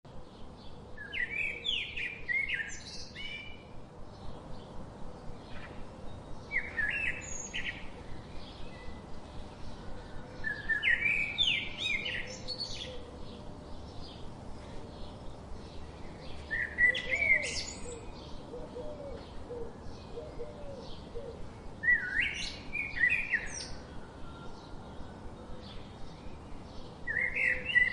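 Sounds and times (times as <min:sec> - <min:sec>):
faint bird chirping: 0:00.1 - 0:27.9.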